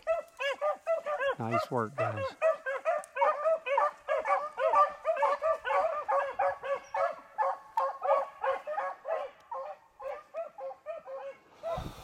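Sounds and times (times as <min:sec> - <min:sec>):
hounds baying: 0:00.0 - 0:11.9.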